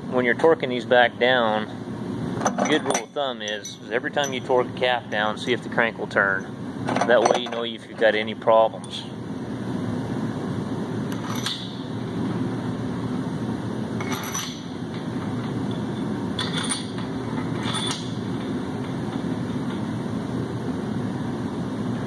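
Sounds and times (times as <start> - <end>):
shop machinery hum: 0.0 - 22.0.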